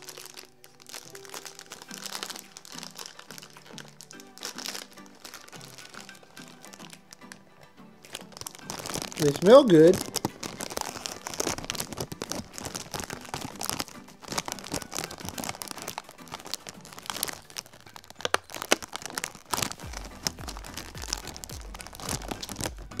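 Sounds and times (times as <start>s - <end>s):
snack wrapper crinkling: 0.0s - 23.0s.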